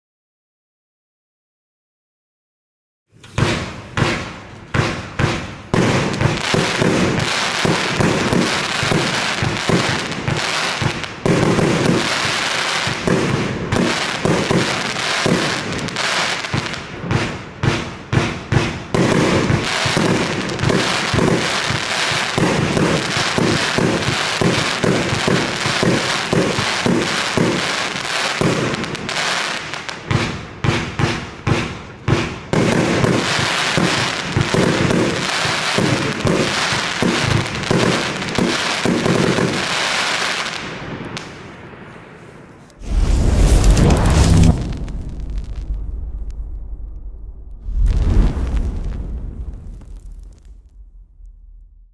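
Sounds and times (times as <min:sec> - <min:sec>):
fireworks cake firing: 0:03.2 - 0:51.9.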